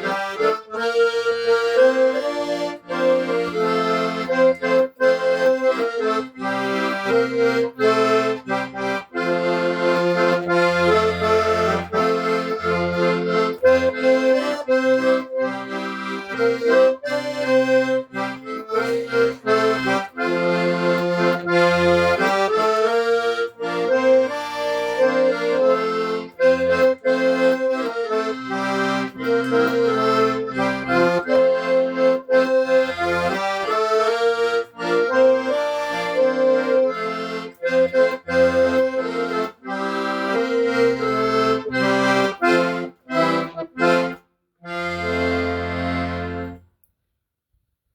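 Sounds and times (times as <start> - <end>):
accordion playing: 0.0 - 46.8.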